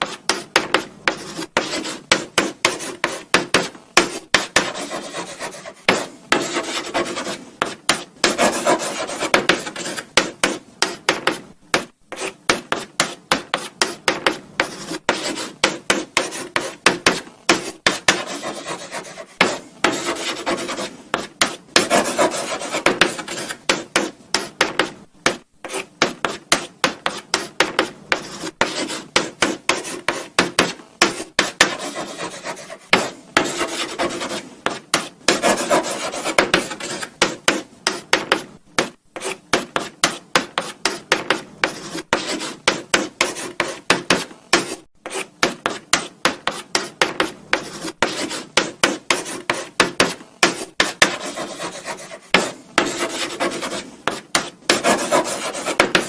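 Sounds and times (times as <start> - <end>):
chalk scratching on blackboard: 0.0 - 56.0.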